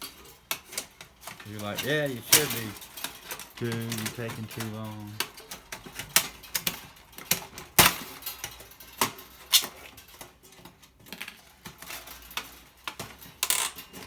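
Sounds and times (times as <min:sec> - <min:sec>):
hand tools clinking on sheet metal: 0:00.0 - 0:14.0.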